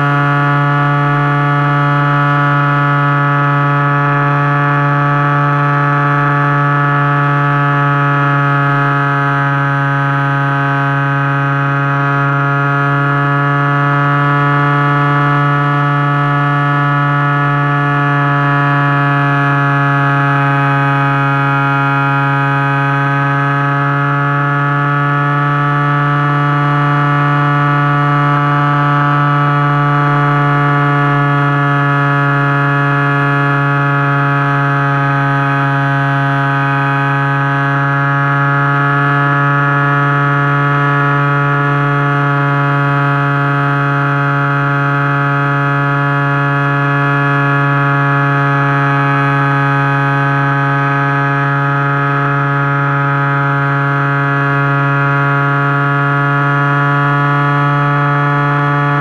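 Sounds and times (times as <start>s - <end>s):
propeller drone: 0.0s - 59.0s.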